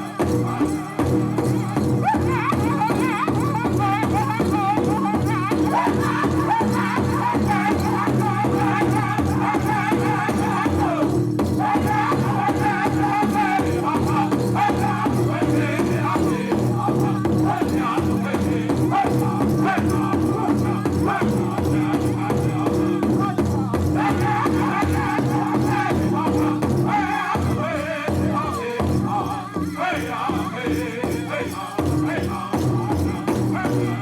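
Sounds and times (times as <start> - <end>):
big drum beat: 0.0 - 34.0
group singing in chorus: 0.0 - 34.0.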